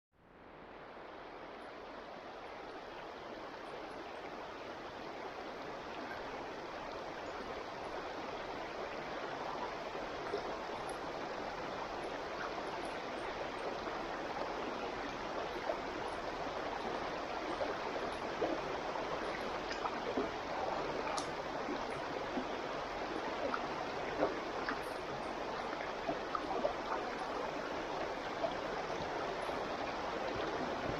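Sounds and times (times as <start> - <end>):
stream water trickling: 0.3 - 30.9.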